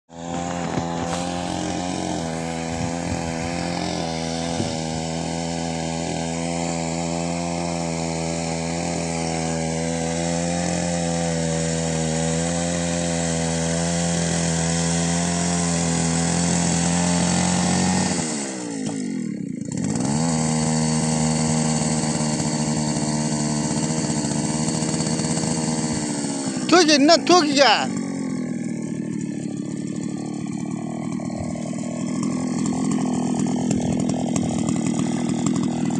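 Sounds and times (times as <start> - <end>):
small engine running at high revs: 0.1 - 35.9.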